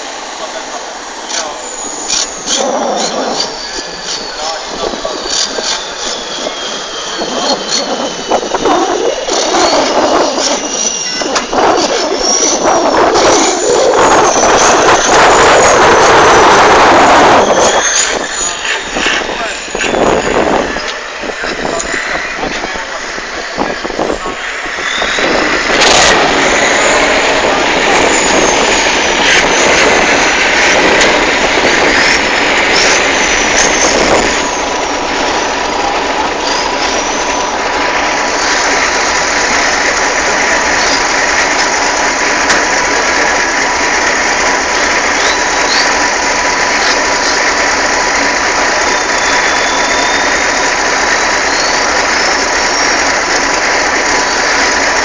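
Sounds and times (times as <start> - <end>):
truck engine running loudly: 0.0 - 55.0.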